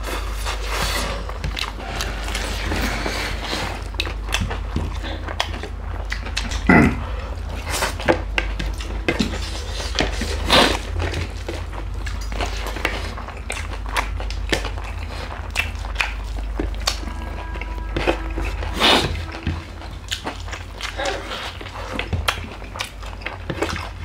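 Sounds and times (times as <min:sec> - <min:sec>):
chewing: 0:00.0 - 0:24.0
steady low hum: 0:00.0 - 0:24.0.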